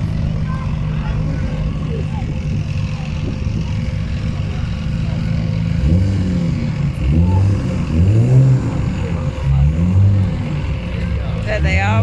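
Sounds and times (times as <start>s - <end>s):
car engine running and revving: 0.0s - 12.0s.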